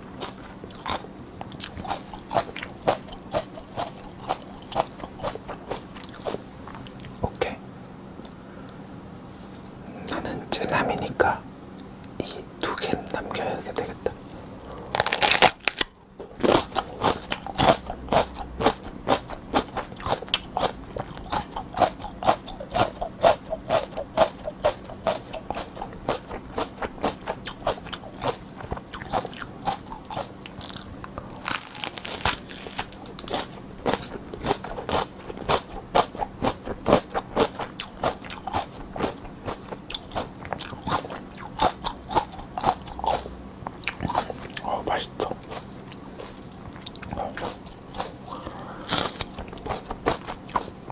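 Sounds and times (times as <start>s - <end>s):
crunching and chewing peppers: 0.0s - 50.9s.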